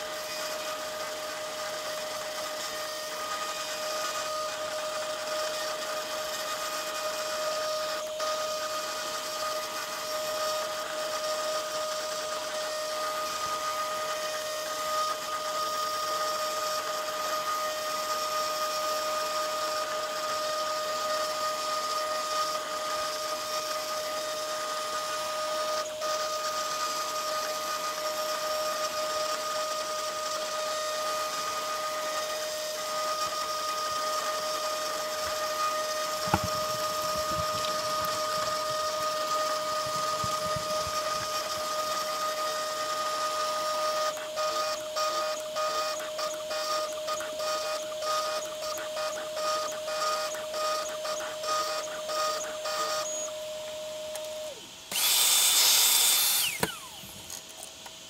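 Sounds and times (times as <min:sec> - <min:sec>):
cnc spindle whine milling board: 0:00.0 - 0:58.0.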